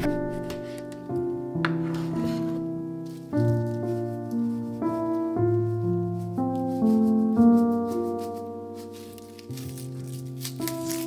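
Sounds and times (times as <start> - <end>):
slow keyboard melody: 0.0 - 11.0.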